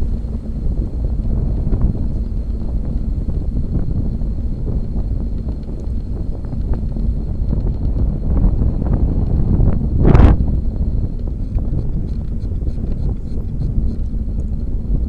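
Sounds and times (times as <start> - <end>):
bicycle ticks and rattles: 0.0 - 15.0
wind buffeting microphone: 0.0 - 15.0.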